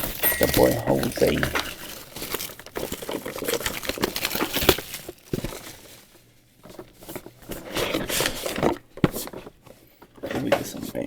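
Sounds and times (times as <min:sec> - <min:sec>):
plastic wrapping crinkling: 0:00.0 - 0:08.9
cardboard box being handled: 0:00.0 - 0:09.7.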